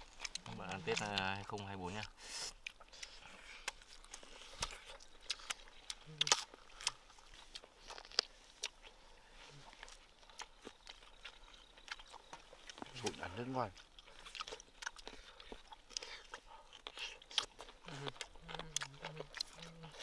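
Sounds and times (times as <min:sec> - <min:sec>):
person chewing crunchy rib: 0:00.0 - 0:20.0.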